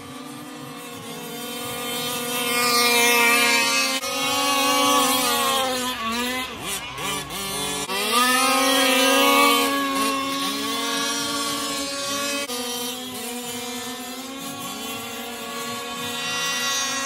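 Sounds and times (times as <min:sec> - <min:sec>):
rc trucks revving: 0:00.0 - 0:17.0.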